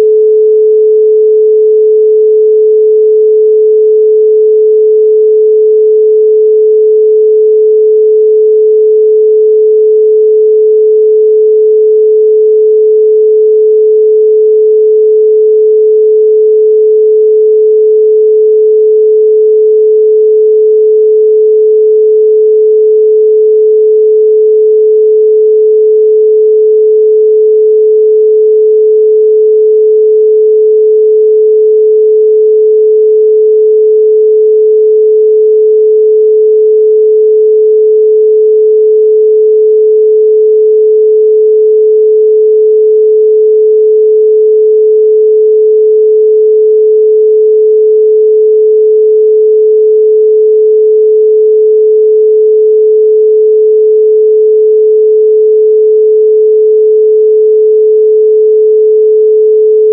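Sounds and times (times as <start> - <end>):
loud pure sine tone: 0.0 - 59.9.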